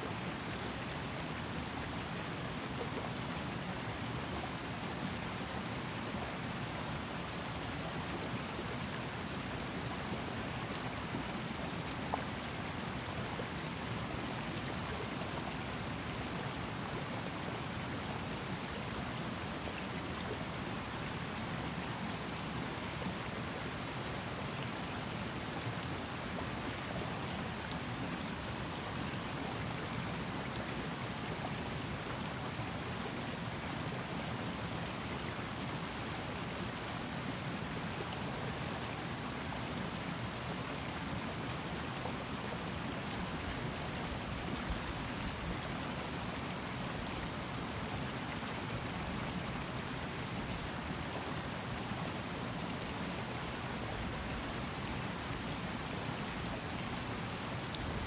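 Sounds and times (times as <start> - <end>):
river water rushing: 0.1 - 58.0.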